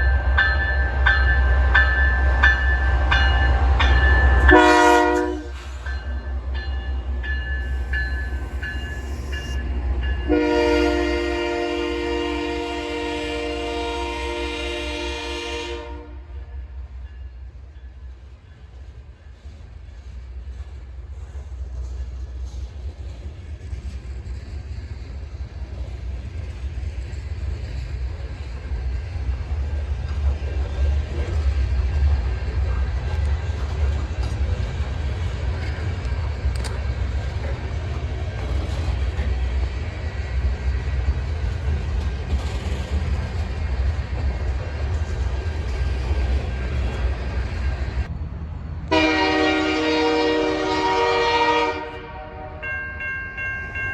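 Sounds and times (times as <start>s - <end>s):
train rumble: 0.0s - 53.9s.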